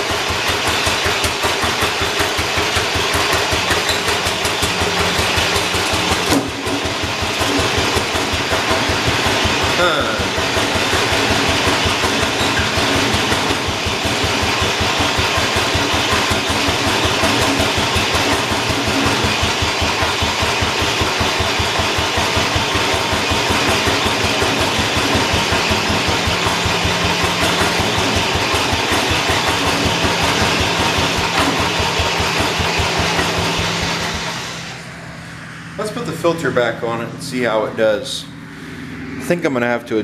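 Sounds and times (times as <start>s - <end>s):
lawn tractor engine running fast: 0.0s - 36.3s.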